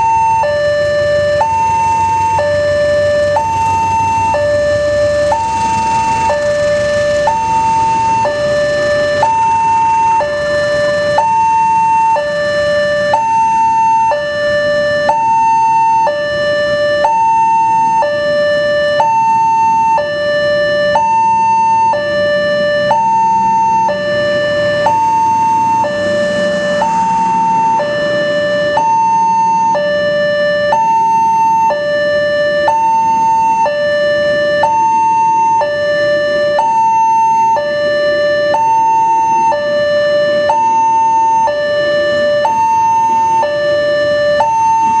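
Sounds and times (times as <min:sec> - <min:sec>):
level-crossing two-tone alarm: 0:00.0 - 0:45.0.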